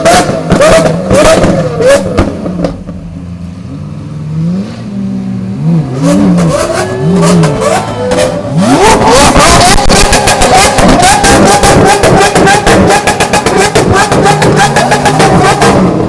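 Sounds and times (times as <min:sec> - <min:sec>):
exhaust crackling and popping: 0:00.0 - 0:03.7, 0:06.0 - 0:16.0
supercar engines revving: 0:00.0 - 0:16.0.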